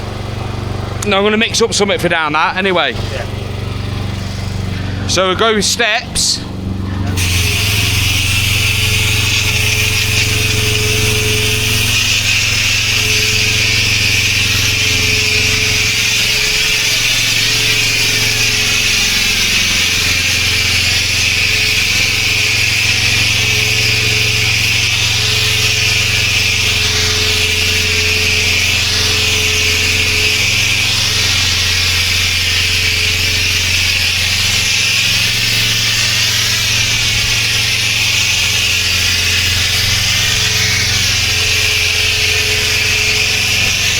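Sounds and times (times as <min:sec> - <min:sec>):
pressure washer jet spraying: 0:00.0 - 0:43.9.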